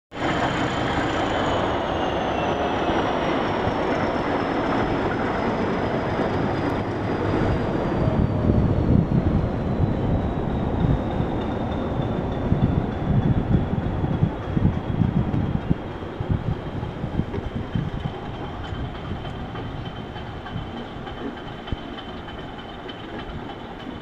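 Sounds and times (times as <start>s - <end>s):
diesel engine rumble: 0.2s - 24.0s
steel wheels rolling: 0.2s - 24.0s.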